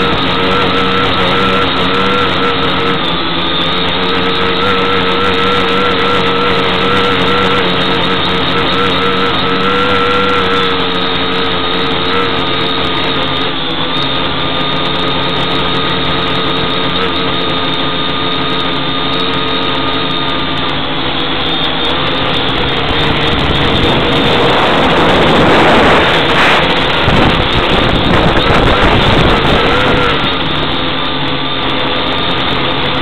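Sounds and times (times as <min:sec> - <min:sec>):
drone propellers humming: 0:00.0 - 0:33.0.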